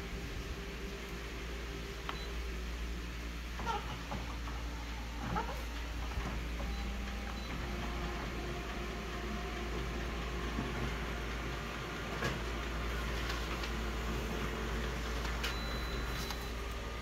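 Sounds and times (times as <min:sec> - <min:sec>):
copier mechanical hum: 0:00.0 - 0:17.0.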